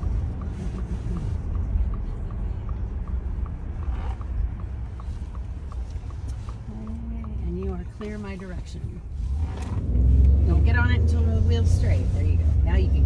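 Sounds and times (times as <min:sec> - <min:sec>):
low rumble of truck cab: 0:00.0 - 0:13.0
turn signal ticking: 0:00.0 - 0:13.0.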